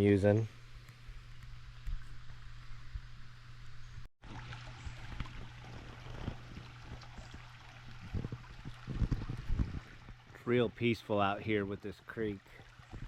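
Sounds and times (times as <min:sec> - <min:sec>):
creek water trickling over stones: 0:00.0 - 0:13.0.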